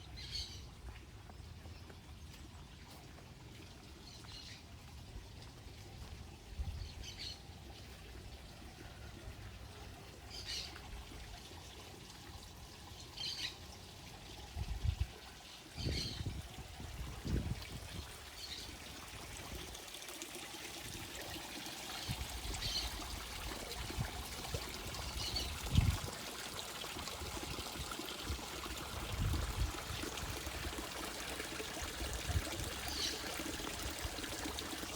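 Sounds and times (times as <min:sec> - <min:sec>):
water trickling into pond: 0:00.0 - 0:34.9.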